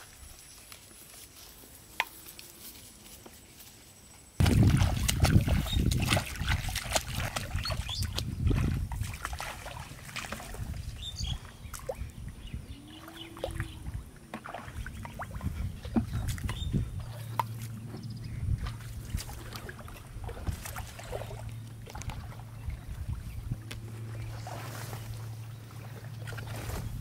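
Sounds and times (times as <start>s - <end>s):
feet splashing through shallow water: 4.4s - 27.0s.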